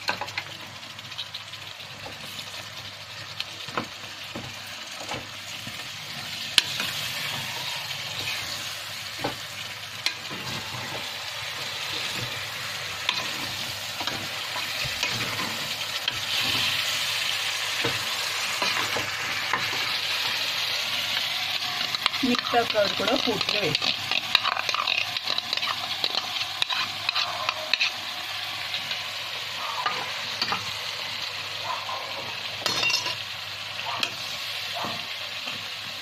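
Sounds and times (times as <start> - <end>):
food sizzling in a pot: 0.0 - 36.0.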